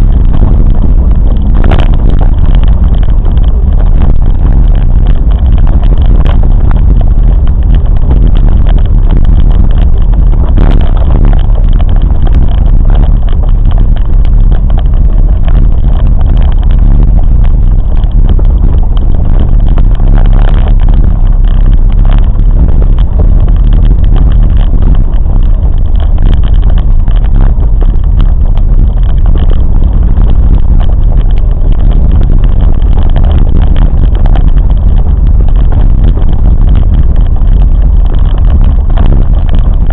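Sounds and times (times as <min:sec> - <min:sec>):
train rumbling on board: 0:00.0 - 0:39.9.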